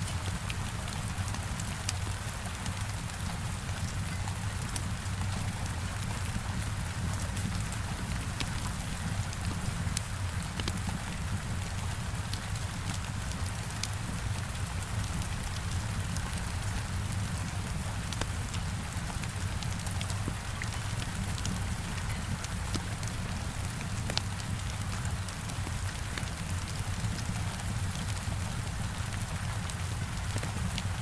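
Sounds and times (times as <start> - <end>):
heavy rain on a window: 0.0 - 31.0
wood fire crackling: 0.0 - 31.0.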